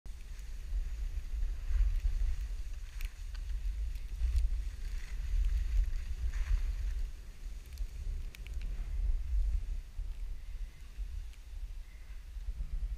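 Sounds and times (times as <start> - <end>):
wind buffeting microphone: 0.1 - 12.9.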